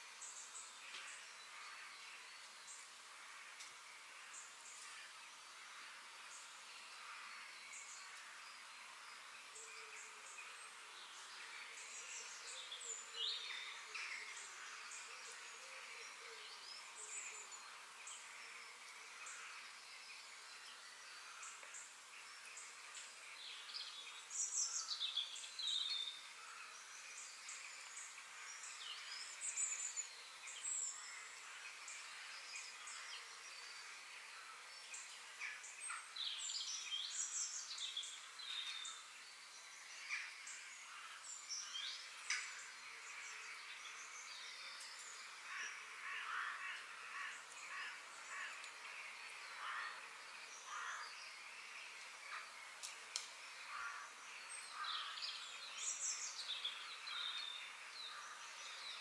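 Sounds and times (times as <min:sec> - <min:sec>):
faint background bird chorus: 0:00.0 - 0:59.0
small birds chirping and trilling: 0:00.0 - 0:59.0.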